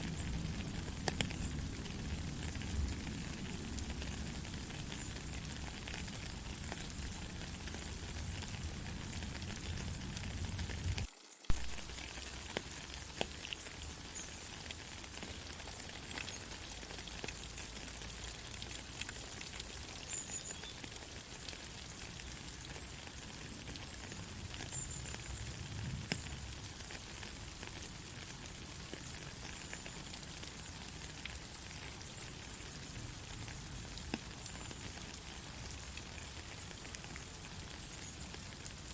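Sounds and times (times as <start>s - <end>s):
rain drops ticking: 0.0s - 38.9s.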